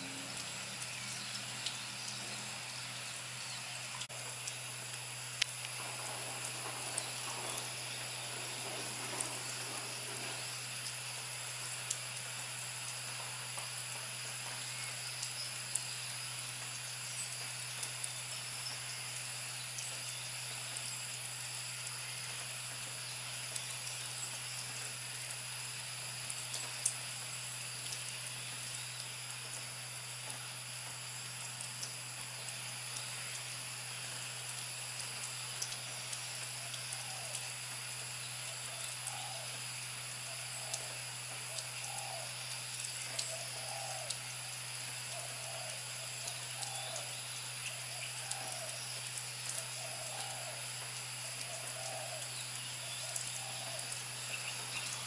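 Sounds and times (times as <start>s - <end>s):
raindrops ticking: 0.0s - 55.0s
steady rain hiss: 0.0s - 55.0s.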